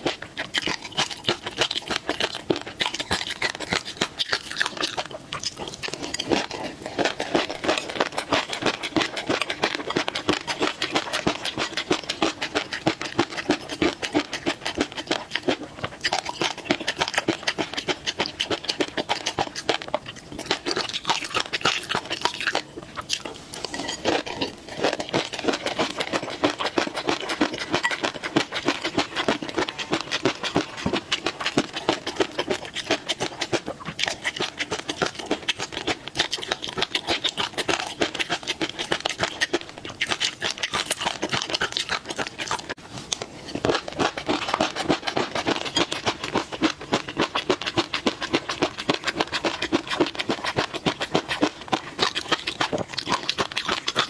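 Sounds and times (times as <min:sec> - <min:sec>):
chewing mouth sounds: 0:00.0 - 0:54.0.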